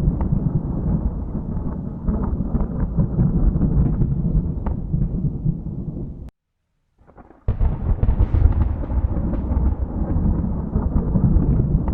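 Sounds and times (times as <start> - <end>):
thunder rumbling: 0.0 - 6.3, 7.1 - 11.9.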